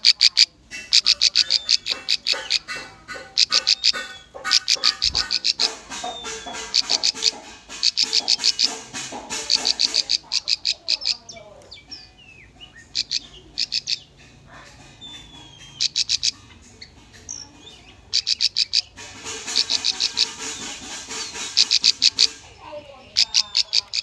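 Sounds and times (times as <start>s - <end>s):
faint bird chirps: 0.0s - 8.8s, 9.4s - 24.0s.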